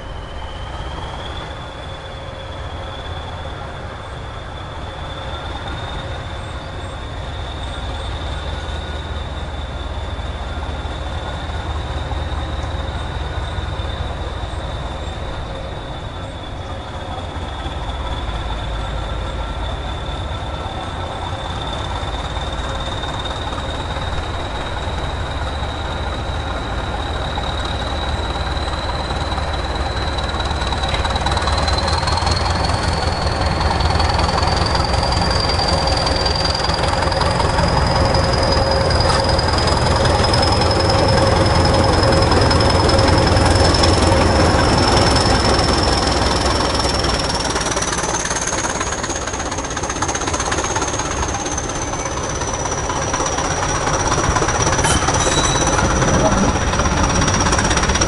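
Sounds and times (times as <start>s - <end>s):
diesel locomotive engine whistling: 0.0s - 58.0s.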